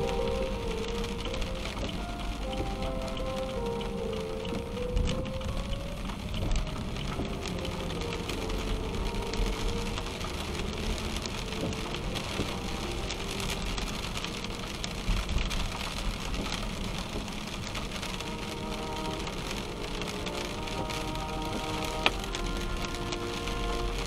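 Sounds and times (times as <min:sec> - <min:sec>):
rain on car windshield: 0:00.0 - 0:24.0
tyres rumbling on wet road: 0:00.0 - 0:24.0.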